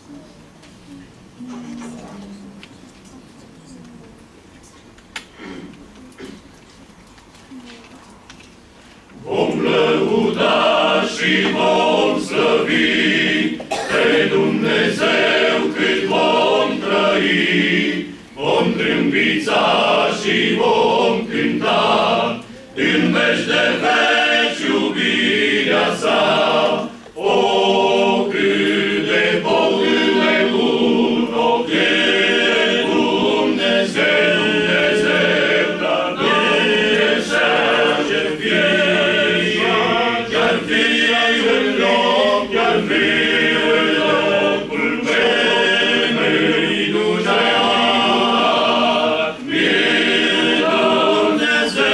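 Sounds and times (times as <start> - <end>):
men's choir singing a hymn: 9.1 - 51.9.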